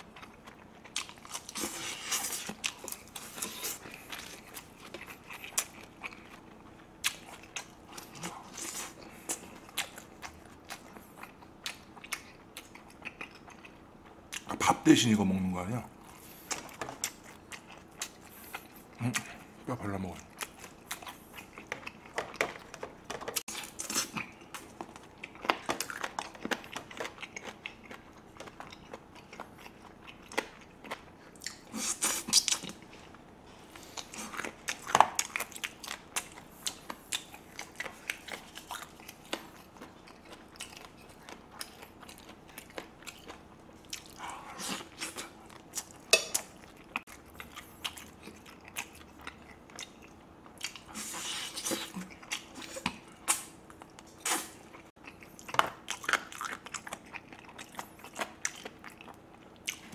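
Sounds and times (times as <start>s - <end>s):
person chewing chicken: 0.0s - 14.6s, 15.9s - 59.9s.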